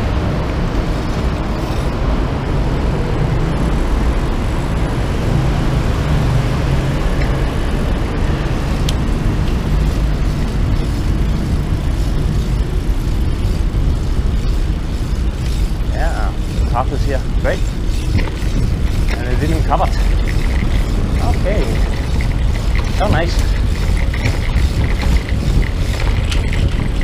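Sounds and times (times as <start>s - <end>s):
road traffic: 0.0s - 27.0s
wind on microphone: 0.0s - 27.0s.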